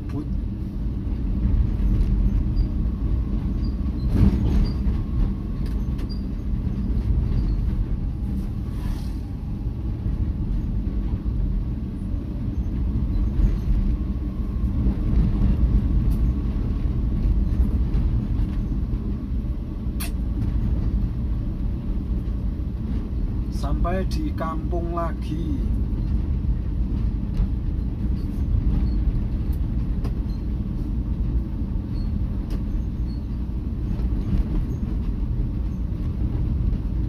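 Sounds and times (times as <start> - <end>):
vehicle engine and tyre rumble: 0.0 - 37.0.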